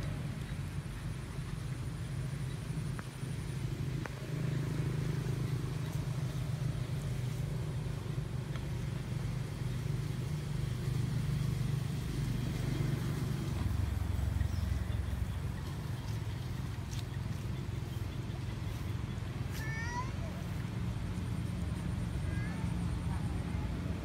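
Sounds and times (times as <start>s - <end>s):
low engine rumble: 0.0s - 24.0s.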